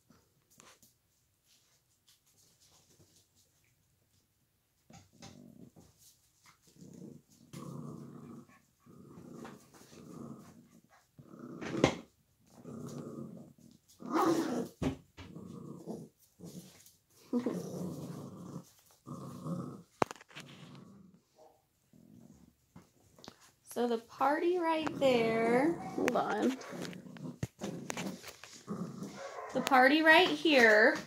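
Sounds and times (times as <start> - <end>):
puppies play-growling: 4.9 - 23.5, 24.5 - 31.0.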